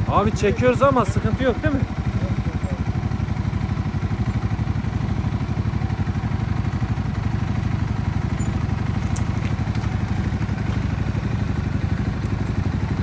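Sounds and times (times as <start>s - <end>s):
atv engine putter: 0.0s - 13.0s.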